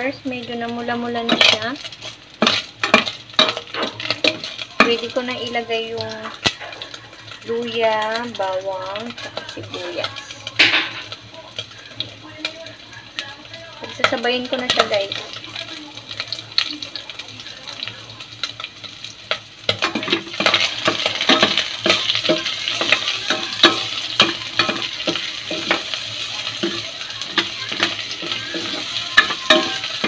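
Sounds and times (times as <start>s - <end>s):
onions sizzling in fat: 0.0s - 30.0s.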